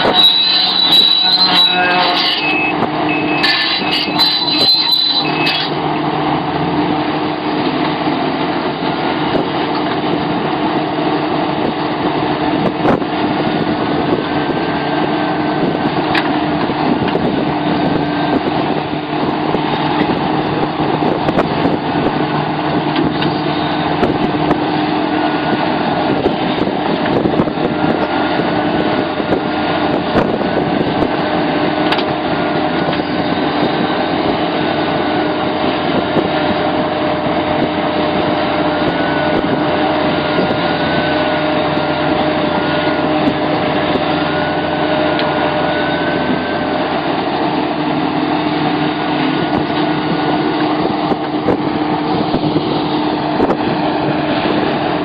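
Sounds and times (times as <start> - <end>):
excavator engine droning: 0.0 - 55.0.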